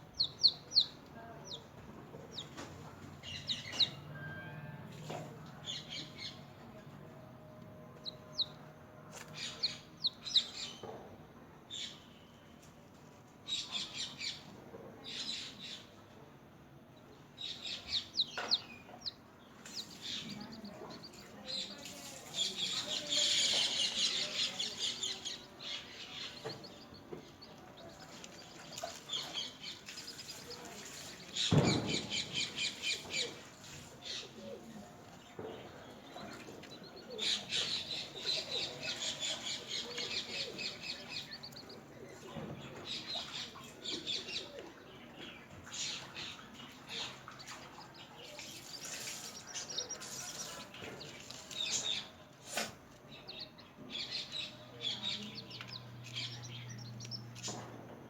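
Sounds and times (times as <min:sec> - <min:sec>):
chicks peeping: 0:00.0 - 0:06.9, 0:07.9 - 0:10.9, 0:17.4 - 0:57.6.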